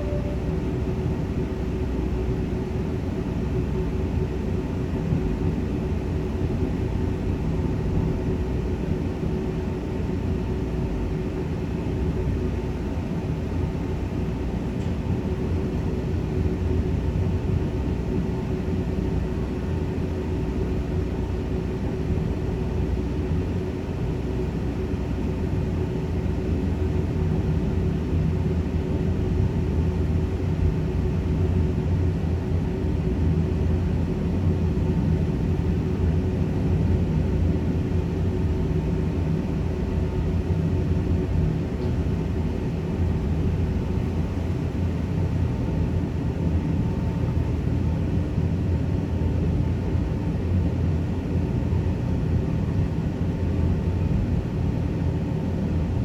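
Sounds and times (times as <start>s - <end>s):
constant hum: 0.0s - 56.0s.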